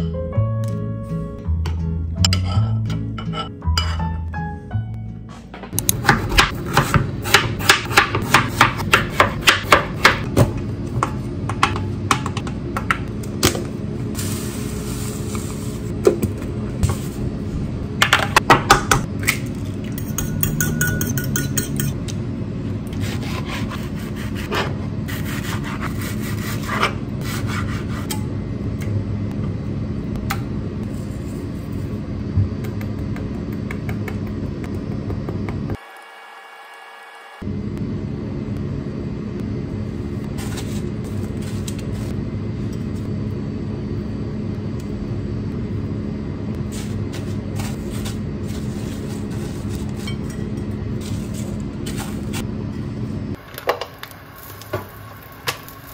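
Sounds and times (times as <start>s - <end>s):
steady low hum: 5.2s - 35.8s, 37.4s - 53.4s.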